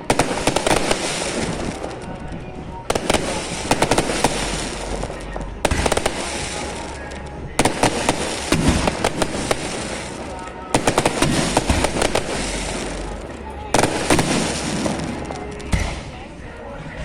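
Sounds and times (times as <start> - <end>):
crackling hiss: 0.0 - 16.0
fireworks bangs: 0.0 - 16.3.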